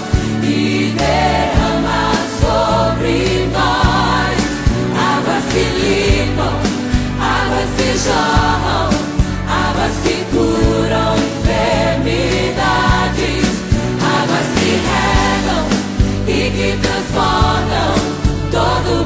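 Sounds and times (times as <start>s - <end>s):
gospel choir singing over a beat: 0.0s - 19.0s.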